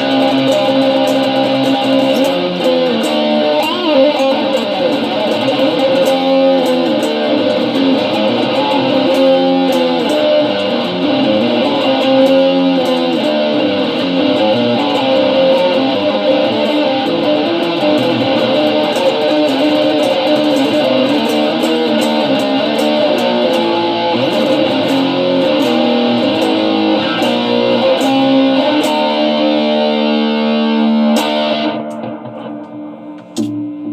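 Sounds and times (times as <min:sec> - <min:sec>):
improvised guitar solo: 0:00.0 - 0:33.9.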